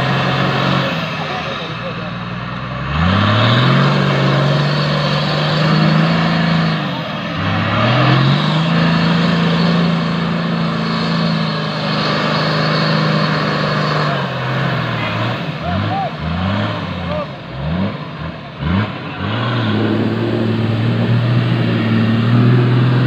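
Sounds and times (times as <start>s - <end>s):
engine revving under load: 0.0s - 23.0s
splashing and tyre noise: 0.0s - 23.0s.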